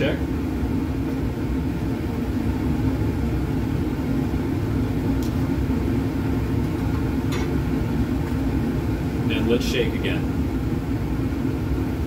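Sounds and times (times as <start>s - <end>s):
ventilation airflow rumble: 0.0s - 12.0s.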